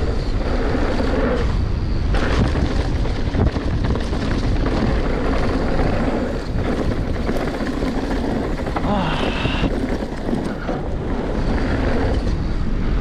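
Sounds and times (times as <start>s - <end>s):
bike rattling over bumps: 0.0s - 13.0s
tyres rolling on dirt: 0.0s - 13.0s
wind rushing over microphone: 0.0s - 13.0s.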